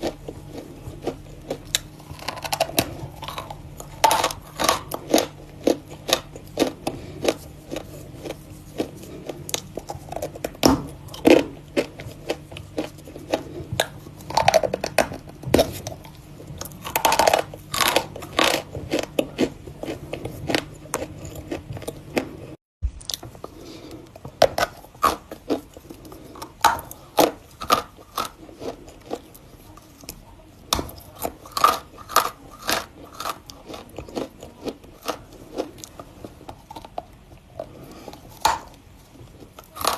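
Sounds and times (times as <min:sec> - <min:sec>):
crunching chalk chewing: 0:00.0 - 0:39.9.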